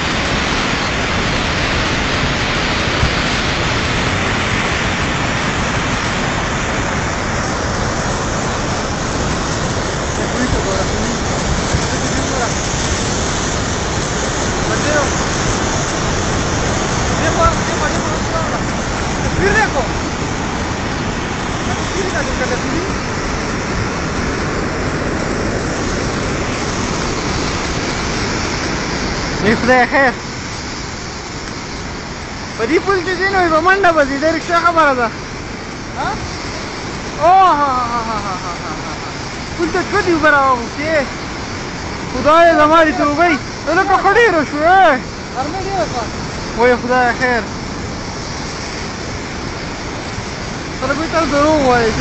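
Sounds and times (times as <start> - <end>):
floodwater rushing: 0.0 - 52.0.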